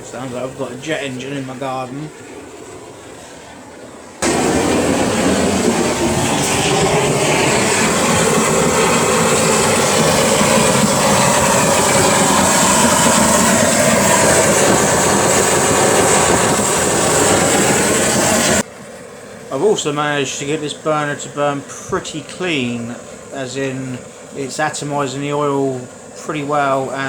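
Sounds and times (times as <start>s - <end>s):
oil burner roaring: 0.0s - 27.0s.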